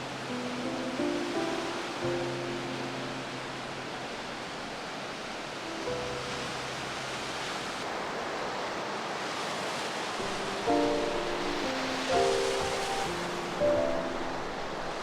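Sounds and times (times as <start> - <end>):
soft background music: 0.0 - 7.8, 10.2 - 15.0
waves washing on shore: 0.0 - 15.0.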